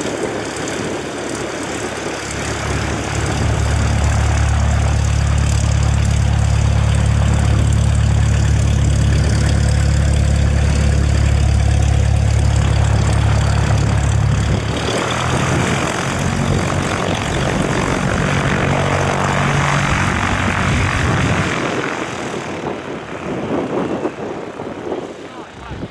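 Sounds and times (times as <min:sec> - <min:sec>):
plane whooshing past: 0:00.0 - 0:25.9
propeller plane engine droning: 0:00.0 - 0:25.9.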